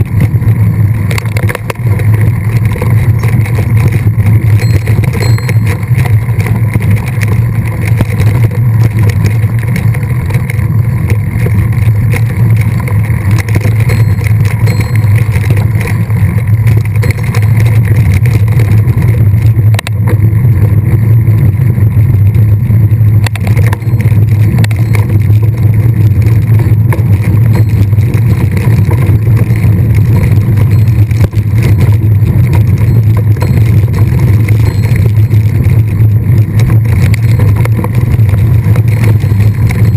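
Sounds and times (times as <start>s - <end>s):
bike tyre noise on trail: 0.0s - 39.9s
wind buffeting microphone: 0.0s - 39.9s.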